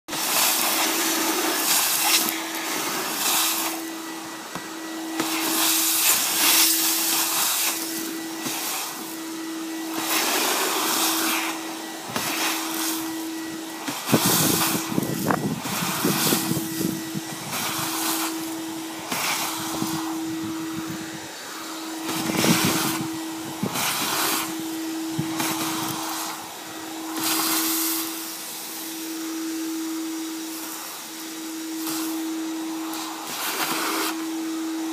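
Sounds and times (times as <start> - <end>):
gutter vacuum suction: 0.1 - 34.9.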